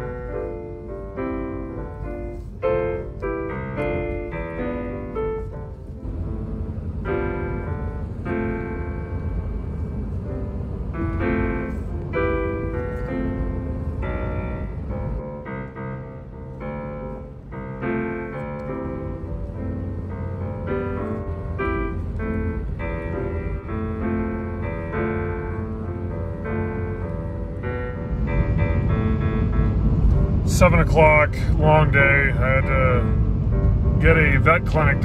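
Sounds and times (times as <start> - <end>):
car driving on highway rumble: 0.0 - 35.0
piano music: 0.0 - 35.0.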